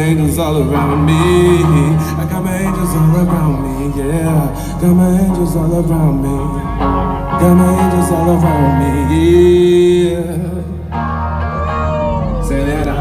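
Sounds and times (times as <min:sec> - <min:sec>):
man singing wordless vocals: 0:00.0 - 0:11.1, 0:12.2 - 0:13.0
electric guitar: 0:00.0 - 0:13.0.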